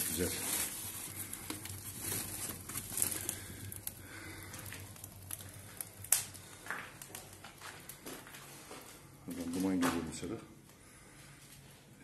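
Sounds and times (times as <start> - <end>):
fire crackling and popping: 0.0 - 11.9.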